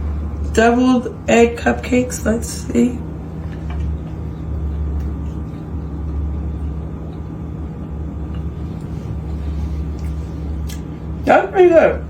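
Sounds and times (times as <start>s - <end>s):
machine humming with low rumble: 0.0s - 12.0s.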